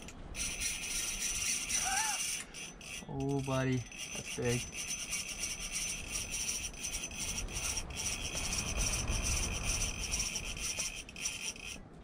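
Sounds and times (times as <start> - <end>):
fishing reel drag buzzing: 0.0 - 11.8.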